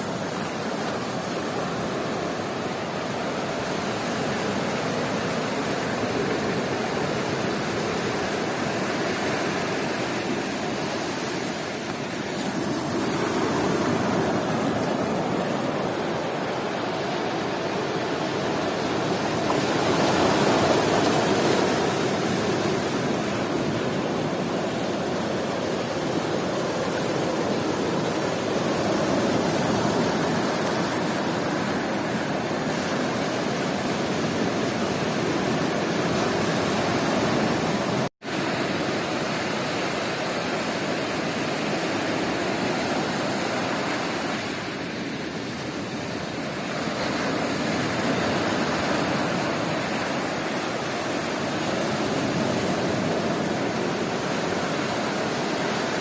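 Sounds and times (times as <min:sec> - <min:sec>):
surf washing on sandy beach: 0:00.0 - 0:56.0.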